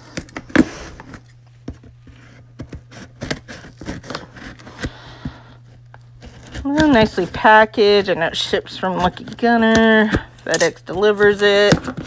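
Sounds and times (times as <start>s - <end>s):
packing paper rustling: 2.0s - 12.0s.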